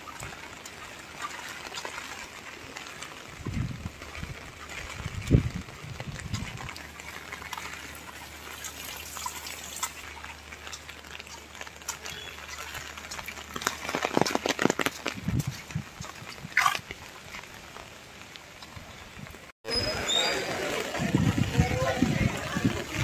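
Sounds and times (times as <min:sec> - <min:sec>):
rain dripping on hard surfaces: 0:00.0 - 0:23.0.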